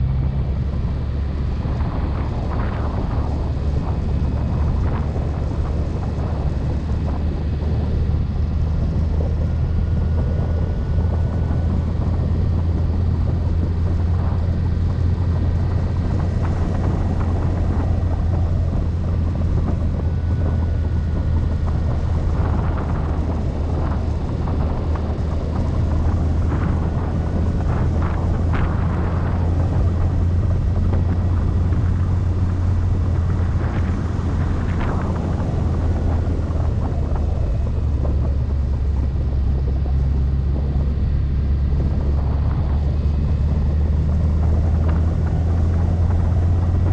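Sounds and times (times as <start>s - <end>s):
car driving rumble: 0.0s - 46.9s
wind noise: 0.0s - 46.9s.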